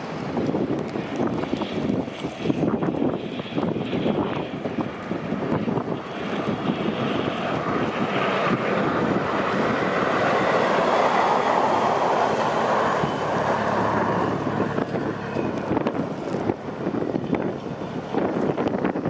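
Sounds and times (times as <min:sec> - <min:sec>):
snow plows passing: 0:00.0 - 0:19.0
wind on microphone: 0:00.0 - 0:19.0.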